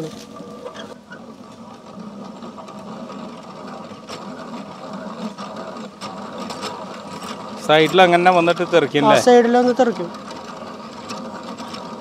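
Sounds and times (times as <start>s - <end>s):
honey extractor whirring: 0.0s - 12.0s.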